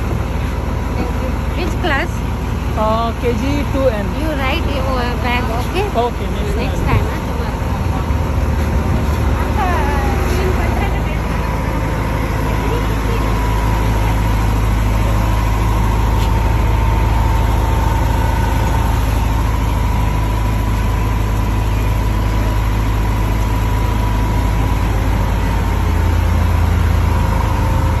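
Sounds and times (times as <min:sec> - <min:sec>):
bus engine idling: 0:00.0 - 0:28.0
thin steady whine: 0:00.0 - 0:28.0.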